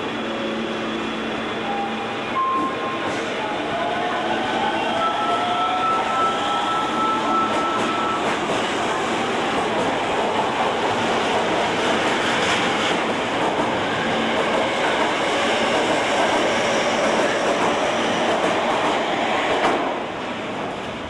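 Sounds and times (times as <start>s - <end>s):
subway train wheels rushing: 0.0s - 21.0s.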